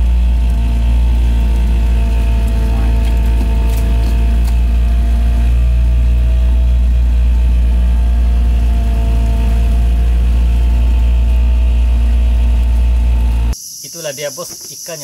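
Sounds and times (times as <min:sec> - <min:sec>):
boat engine idling: 0:00.0 - 0:13.6.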